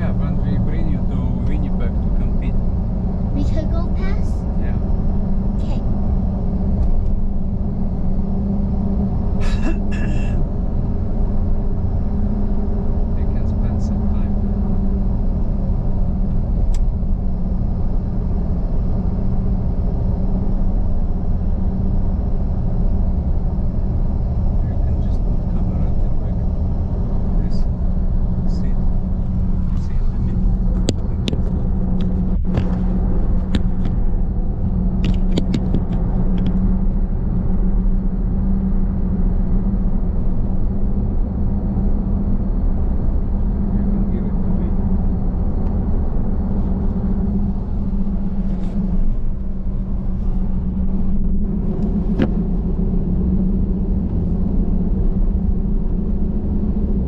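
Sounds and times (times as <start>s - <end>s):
car cabin road rumble: 0.0s - 57.0s
constant hum: 0.0s - 57.0s.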